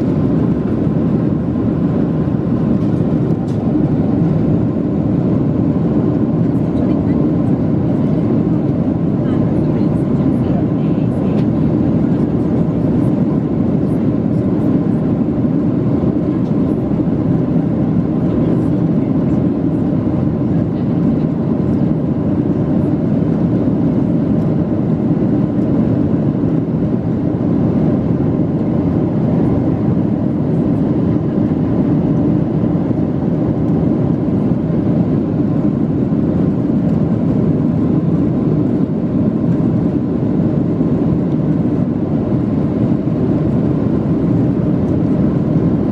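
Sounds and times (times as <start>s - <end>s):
jet engines roaring in cabin: 0.0s - 45.9s.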